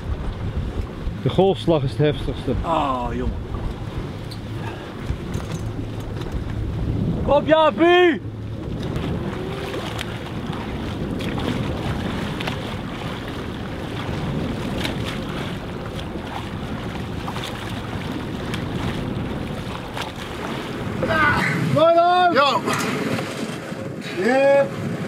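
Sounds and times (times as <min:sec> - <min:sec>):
waves splashing: 0:00.0 - 0:25.0
wind buffeting microphone: 0:00.0 - 0:25.0.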